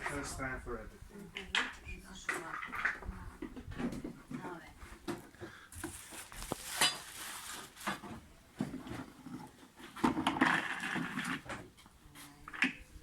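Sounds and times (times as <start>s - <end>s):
scraping and rustling: 1.7s - 13.0s.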